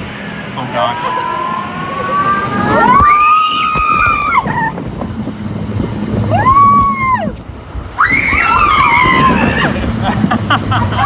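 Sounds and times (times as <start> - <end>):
rushing water: 0.0 - 11.0
wind buffeting microphone: 0.0 - 11.0
riders screaming: 0.6 - 5.0, 6.1 - 11.0.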